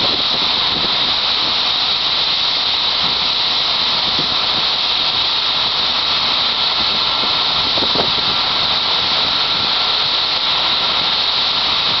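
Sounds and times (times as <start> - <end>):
corn pouring hiss: 0.0 - 12.0.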